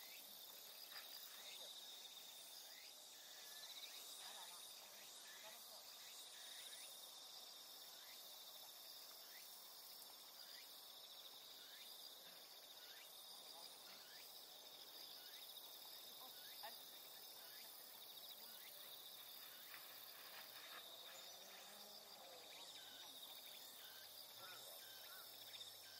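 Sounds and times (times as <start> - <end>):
insects chirring in grass: 0.0 - 25.9.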